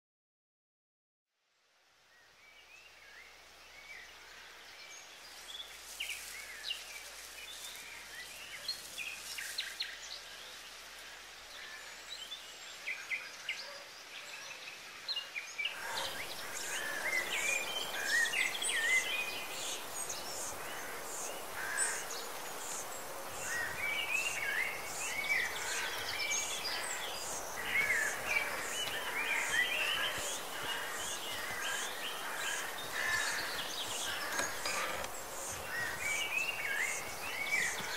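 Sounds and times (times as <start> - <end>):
small birds chirping and singing: 2.1 - 37.9.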